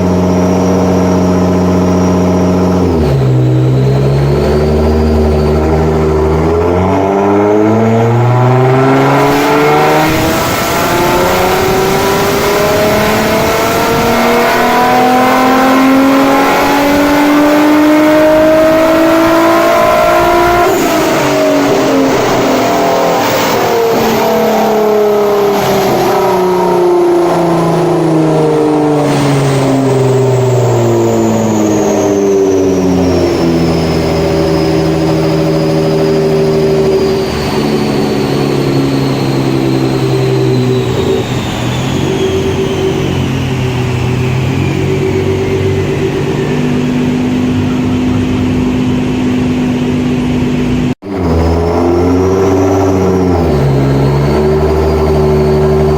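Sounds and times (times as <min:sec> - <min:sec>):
car engine on dyno pull: 0:00.0 - 0:55.9.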